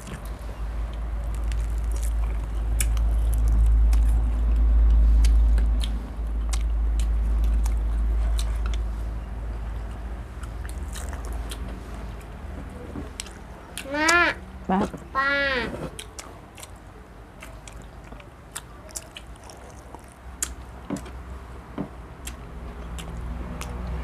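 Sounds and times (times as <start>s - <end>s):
chewing and biting: 0.0s - 13.9s, 15.8s - 21.3s, 22.2s - 24.0s.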